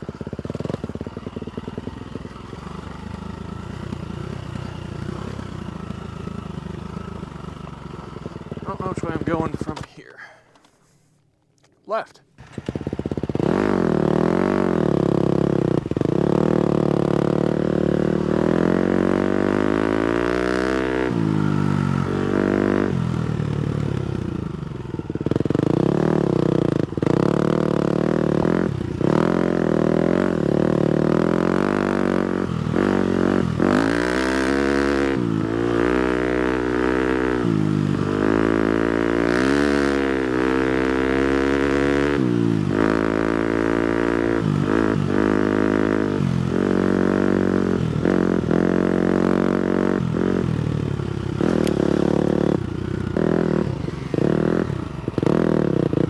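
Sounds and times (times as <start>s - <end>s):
motocross engine revving: 2.5s - 9.9s, 12.4s - 56.0s.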